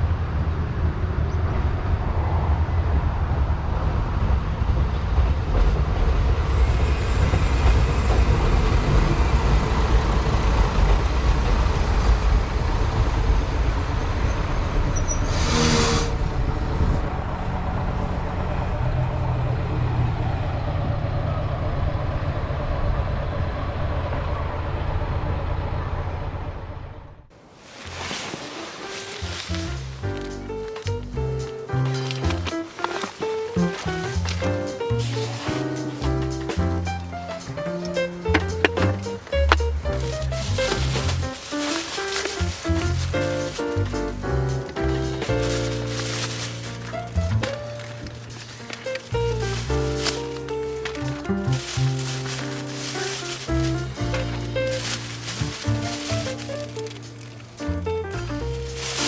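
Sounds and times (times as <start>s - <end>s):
engine and road rumble: 0.0s - 59.0s.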